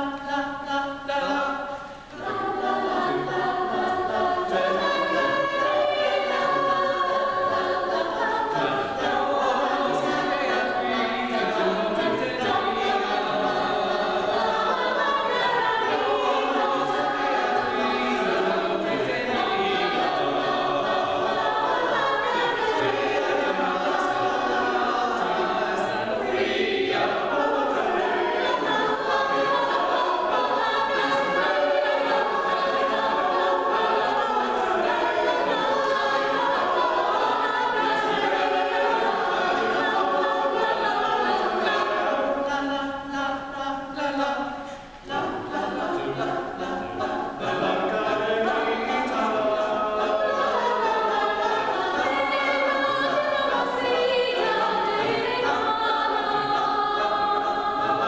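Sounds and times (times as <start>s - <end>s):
mixed choir singing in parts: 0.0s - 58.0s.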